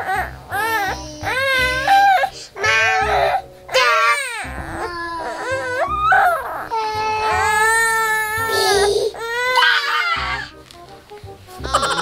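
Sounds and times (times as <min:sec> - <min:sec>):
children's music with pulsing beat: 0:00.0 - 0:12.0
toddler singing: 0:00.5 - 0:10.5.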